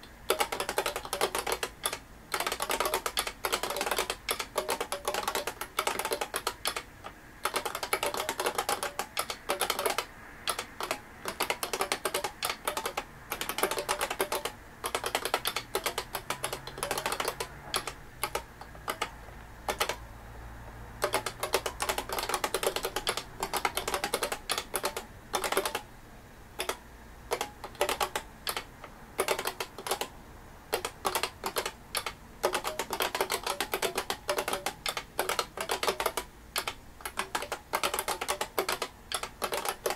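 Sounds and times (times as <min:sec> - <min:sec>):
mechanical keyboard typing: 0:00.0 - 0:20.1, 0:21.0 - 0:25.9, 0:26.6 - 0:39.9.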